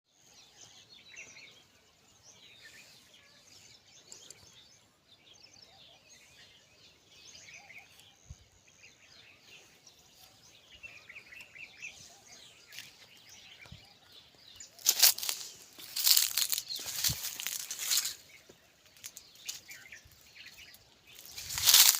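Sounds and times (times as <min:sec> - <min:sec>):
birds chirping: 0:00.1 - 0:21.9.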